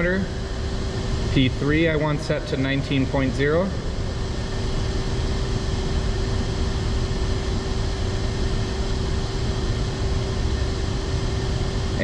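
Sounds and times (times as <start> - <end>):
workshop machinery drone: 0.0 - 12.0.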